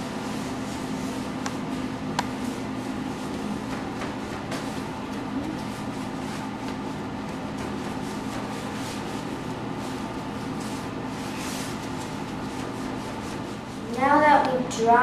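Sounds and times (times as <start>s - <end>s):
paper towel rustling: 0.0s - 14.3s
steady background hum: 0.0s - 15.0s.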